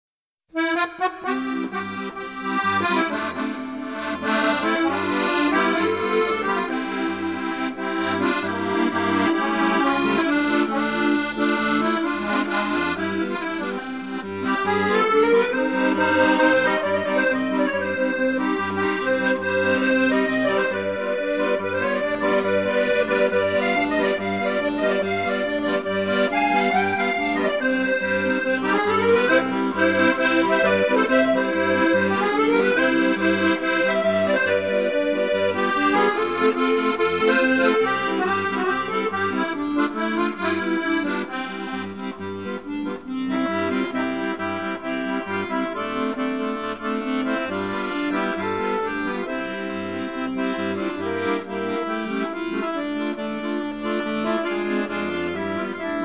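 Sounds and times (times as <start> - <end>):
instrumental background music: 0.6 - 56.0.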